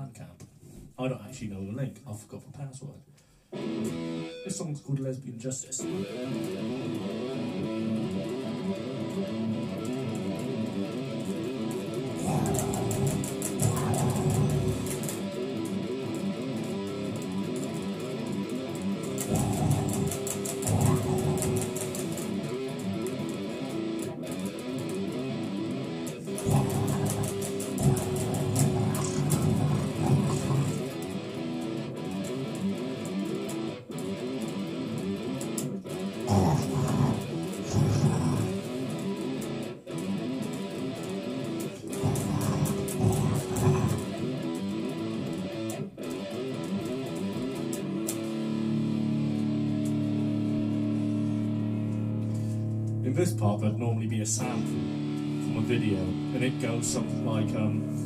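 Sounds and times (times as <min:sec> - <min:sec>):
electric guitar strumming: 0:03.5 - 0:04.8, 0:05.6 - 0:58.0.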